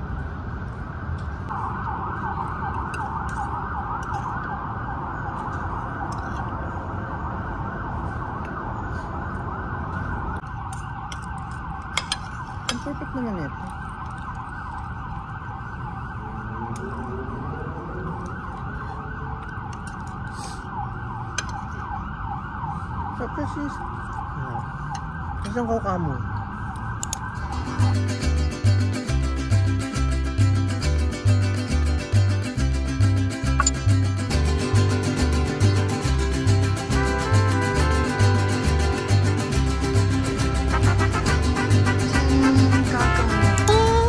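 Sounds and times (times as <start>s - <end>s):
wavering siren-like wail: 0.0s - 29.4s, 34.2s - 44.0s.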